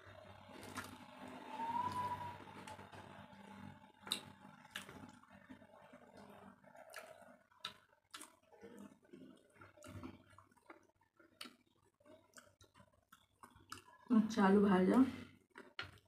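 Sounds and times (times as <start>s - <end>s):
faint chewing: 0.4s - 14.1s, 15.1s - 16.0s.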